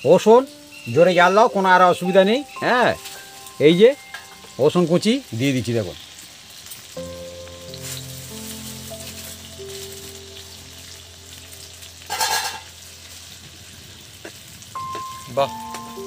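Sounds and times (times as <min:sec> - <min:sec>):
garlic sizzling in butter: 0:00.0 - 0:16.0.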